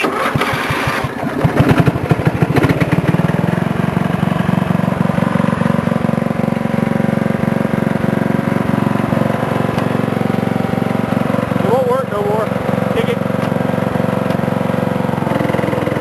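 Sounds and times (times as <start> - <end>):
lawn mower engine idling: 0.0 - 16.0.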